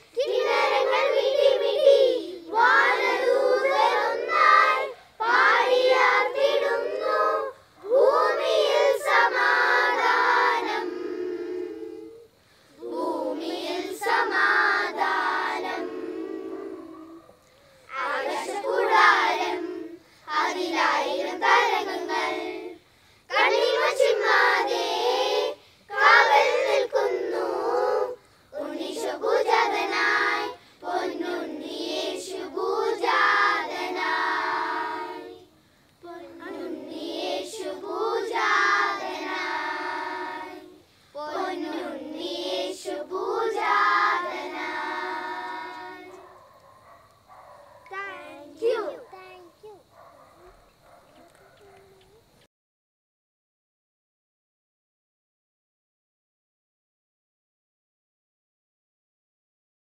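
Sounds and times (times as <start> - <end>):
children's choir singing a carol: 0.0 - 49.1.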